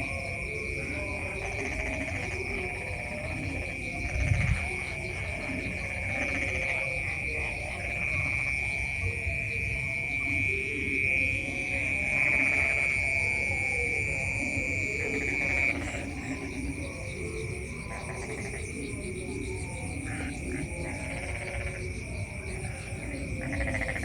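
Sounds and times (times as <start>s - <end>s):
frog-like calls: 0.0s - 24.0s.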